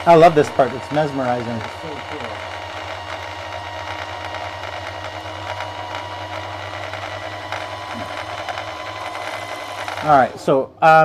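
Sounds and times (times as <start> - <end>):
sewing machine whirring: 0.0 - 11.0.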